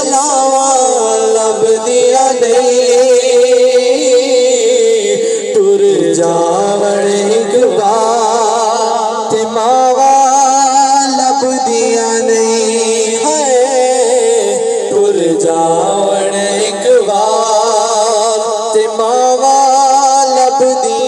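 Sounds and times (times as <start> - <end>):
two men singing into microphones: 0.0 - 21.0.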